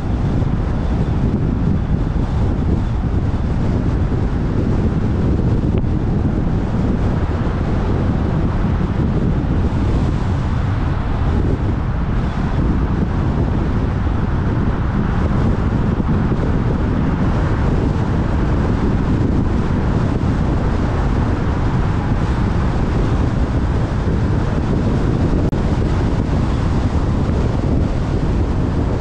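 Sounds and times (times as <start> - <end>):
tyre and road noise: 0.0 - 29.0
wind rumble on microphone: 0.0 - 29.0.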